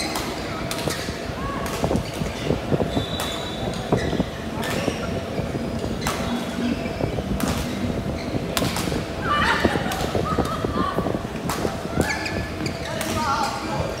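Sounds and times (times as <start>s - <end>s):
low hum of a hall: 0.0s - 14.0s.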